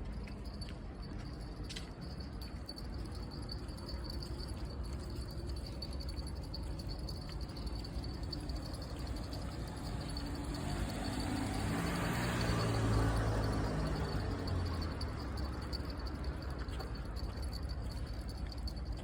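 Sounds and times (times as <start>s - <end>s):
vehicle approaching: 0.0s - 19.0s
high-pitched insect trill: 0.4s - 19.0s.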